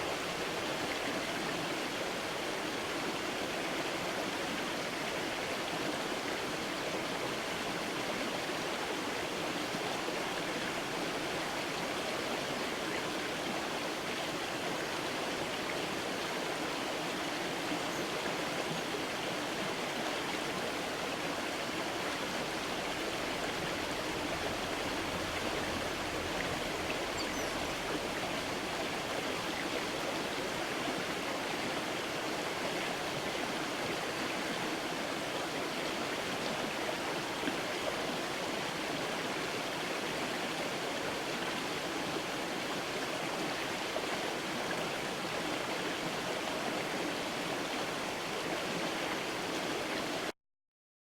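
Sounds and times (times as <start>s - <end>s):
creek flowing over stones: 0.0s - 50.3s.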